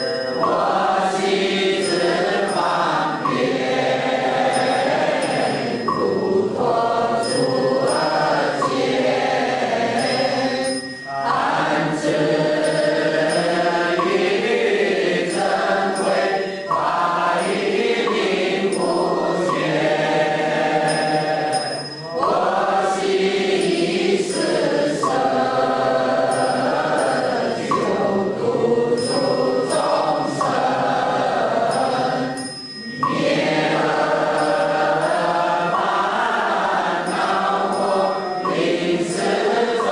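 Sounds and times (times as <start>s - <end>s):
voices chanting in unison: 0.0s - 39.9s.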